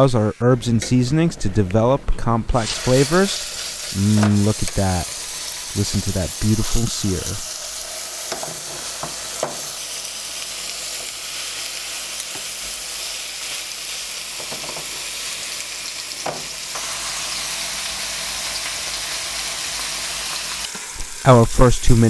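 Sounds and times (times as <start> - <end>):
steaks sizzling in oil: 2.6 - 22.0.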